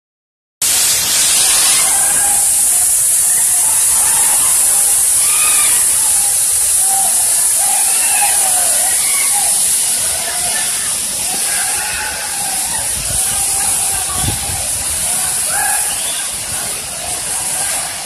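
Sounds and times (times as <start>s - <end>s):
waterfall rushing: 0.6s - 18.0s
faint crowd voices calling out: 1.0s - 18.0s.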